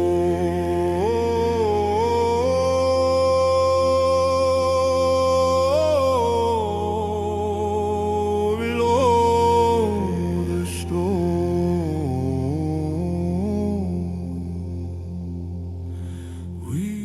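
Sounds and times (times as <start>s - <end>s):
steady low drone: 0.0s - 17.0s
voice chanting long notes: 0.0s - 17.0s.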